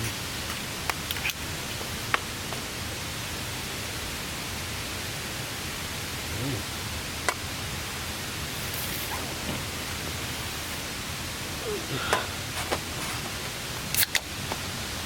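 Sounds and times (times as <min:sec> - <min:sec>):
rain on a tarp: 0:00.0 - 0:15.0.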